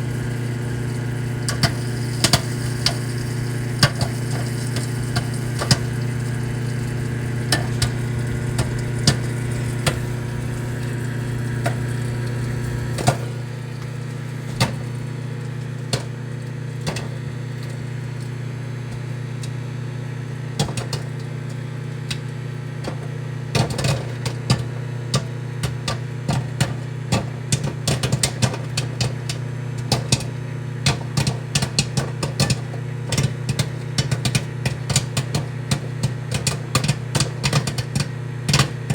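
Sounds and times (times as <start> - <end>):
microwave oven humming: 0.0 - 38.9
popcorn popping: 0.0 - 38.9.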